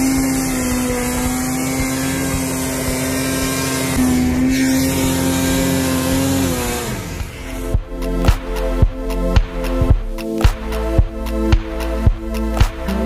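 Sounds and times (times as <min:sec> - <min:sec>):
snowmobile engine at high revs: 0:00.0 - 0:13.0.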